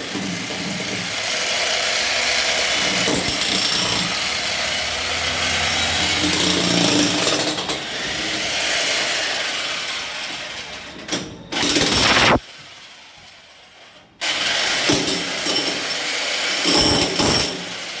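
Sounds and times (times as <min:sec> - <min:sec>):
demolition hammer chiselling concrete: 0:00.0 - 0:12.0, 0:14.2 - 0:18.0.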